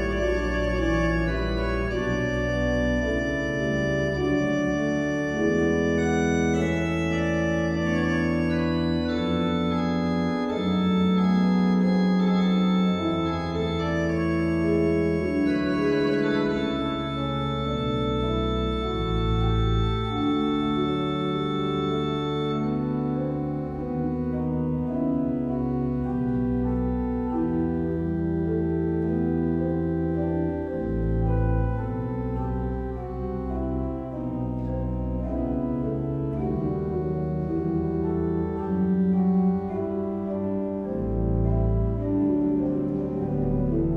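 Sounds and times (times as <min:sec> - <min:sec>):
pipe organ playing chords: 0:00.0 - 0:43.9.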